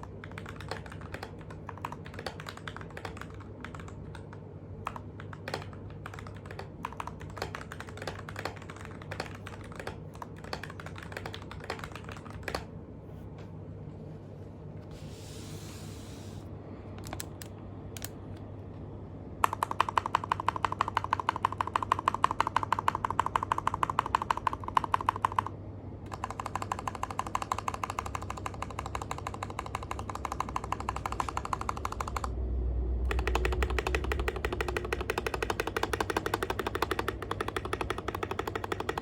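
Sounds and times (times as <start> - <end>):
mechanical keyboard typing: 0.0 - 12.7, 17.0 - 18.1, 19.4 - 32.3, 33.1 - 39.0.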